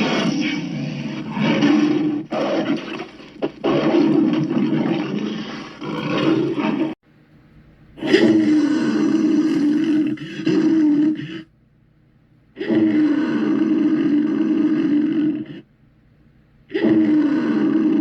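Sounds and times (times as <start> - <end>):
dog growling roars: 0.0 - 7.0, 8.0 - 11.5, 12.6 - 15.6, 16.7 - 18.0.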